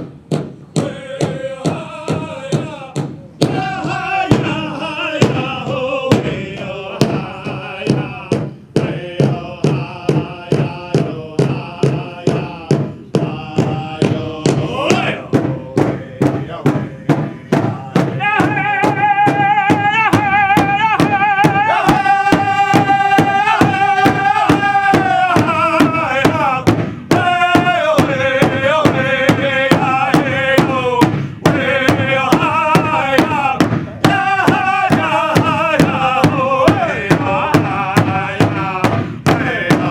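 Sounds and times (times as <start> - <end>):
large hand drum beating: 0.0 - 39.9
male voices singing a chant: 0.7 - 39.9.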